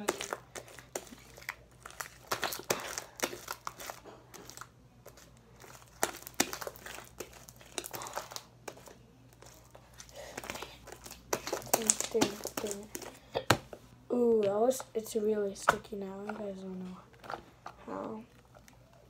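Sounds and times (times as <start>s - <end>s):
slime squelching: 0.0s - 19.0s.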